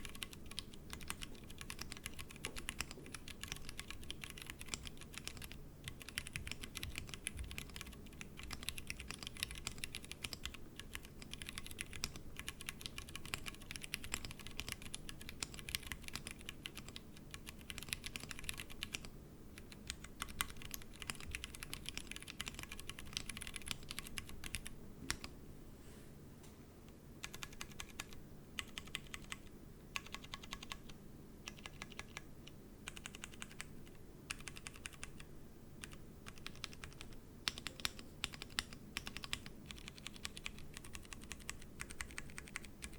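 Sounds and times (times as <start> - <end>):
mechanical keyboard typing: 0.0 - 25.3, 27.2 - 42.9.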